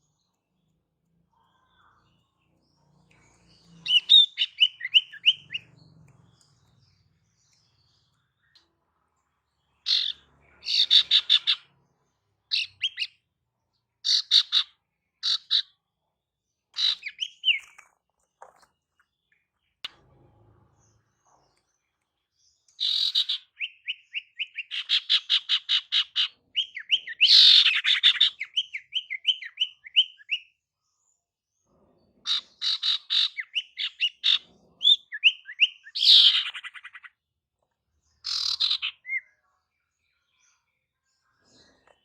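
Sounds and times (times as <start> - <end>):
bird chirping and chattering: 0.1 - 8.7, 9.6 - 13.3, 14.0 - 15.8, 16.7 - 20.1, 20.8 - 30.6, 32.1 - 37.2, 38.1 - 39.4.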